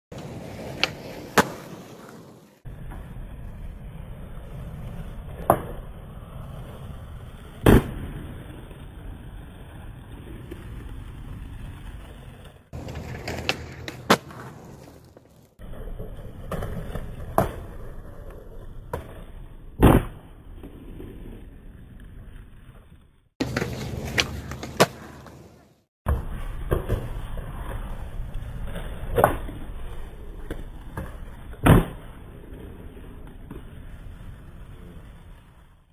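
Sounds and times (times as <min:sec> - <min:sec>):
skateboard popping and landing: 0:00.1 - 0:35.8
skateboard wheels rolling on concrete: 0:00.1 - 0:35.9.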